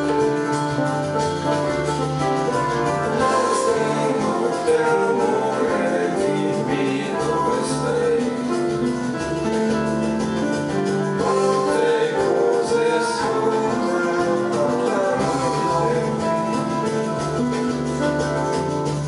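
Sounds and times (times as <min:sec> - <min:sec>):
electronic keyboards playing: 0:00.0 - 0:19.0.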